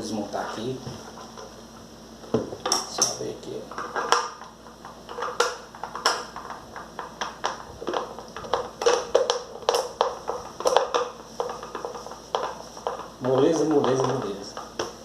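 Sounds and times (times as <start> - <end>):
plastic parts clicking and knocking: 2.6 - 15.0.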